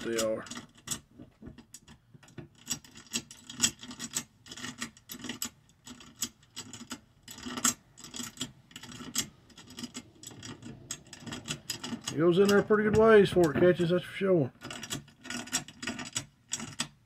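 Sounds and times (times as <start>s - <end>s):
allen key clicking and scraping: 0.0s - 13.8s, 14.6s - 17.0s.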